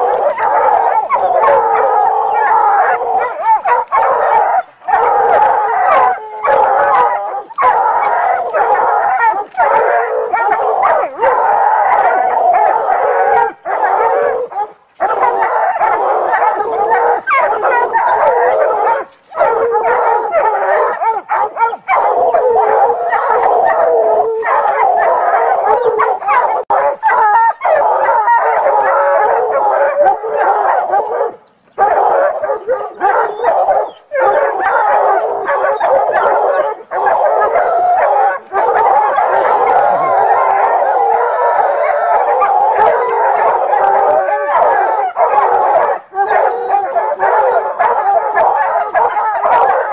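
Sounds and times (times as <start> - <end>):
hounds baying and howling: 0.0 - 49.9.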